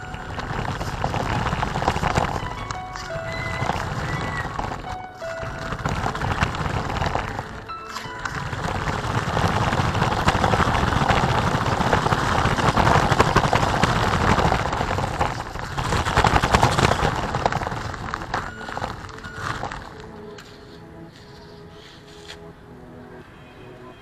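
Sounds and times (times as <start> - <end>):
rc car tyres rattling on concrete: 0.0 - 21.4.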